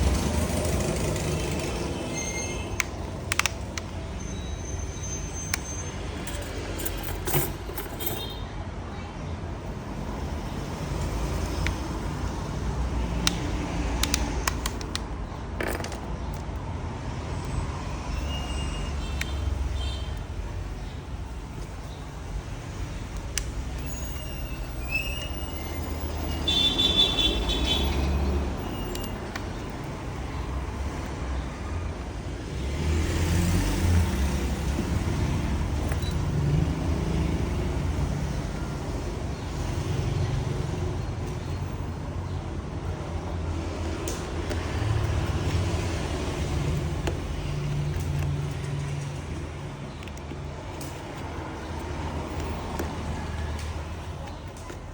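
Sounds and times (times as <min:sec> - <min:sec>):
road traffic rumbling past: 0:00.0 - 0:54.9.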